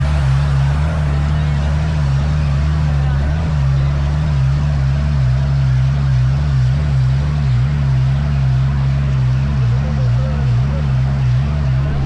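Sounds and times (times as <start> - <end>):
dune buggy engine running: 0.0 - 12.0.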